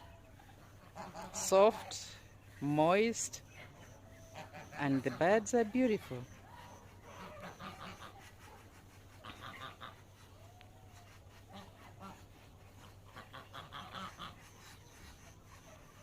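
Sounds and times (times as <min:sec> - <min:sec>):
ducks quacking faintly: 0:00.0 - 0:16.0.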